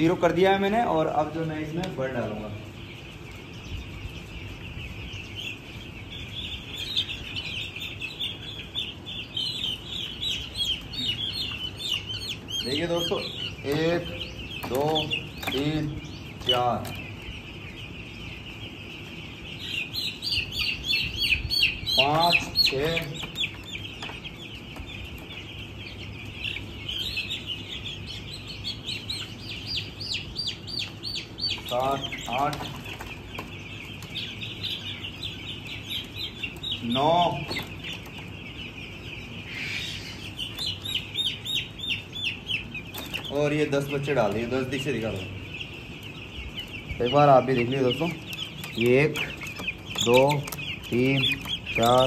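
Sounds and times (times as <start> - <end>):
chicks peeping: 0.0 - 52.0.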